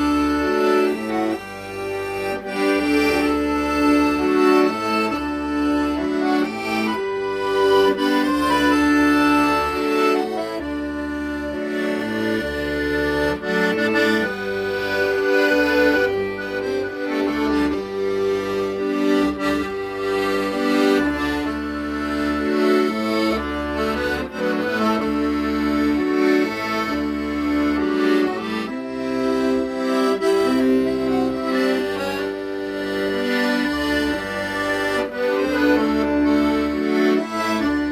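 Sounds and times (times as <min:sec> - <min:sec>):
accordion melody: 0:00.0 - 0:37.9.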